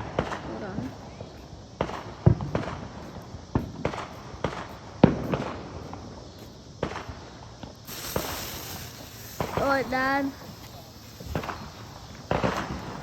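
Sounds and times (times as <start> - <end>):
firecracker pops: 0.0 - 13.0
smoke grenade hissing: 2.0 - 13.0.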